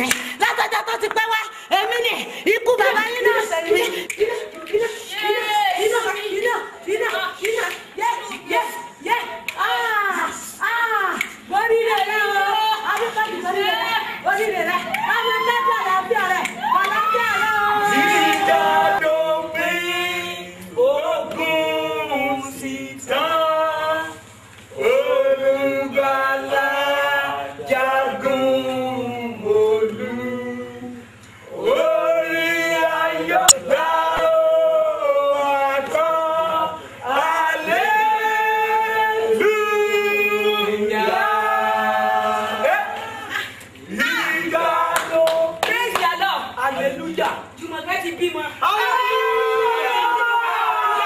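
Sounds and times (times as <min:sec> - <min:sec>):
group singing gospel: 0:01.7 - 0:45.7.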